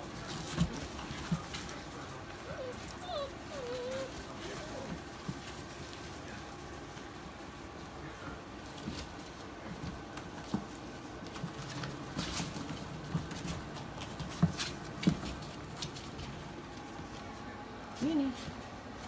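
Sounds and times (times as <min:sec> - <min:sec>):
clicks and rustles: 0:00.0 - 0:19.0
puppy paws pattering: 0:00.0 - 0:19.0.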